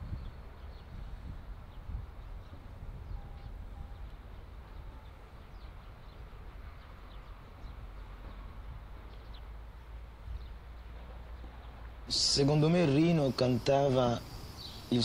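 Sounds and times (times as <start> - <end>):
faint bird chirps: 0.0 - 8.5, 10.3 - 15.0
wind rumbling on microphone: 0.0 - 13.5.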